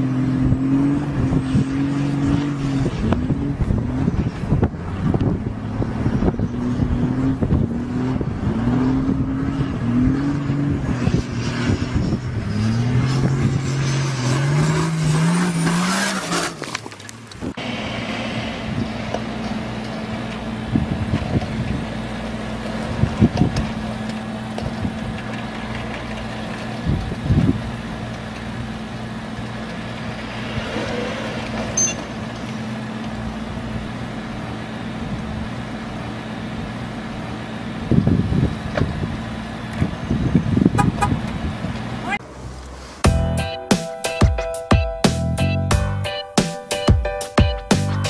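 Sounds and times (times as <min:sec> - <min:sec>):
low rumbles: 0:00.0 - 0:43.6
vehicle engine hum: 0:00.0 - 0:43.7.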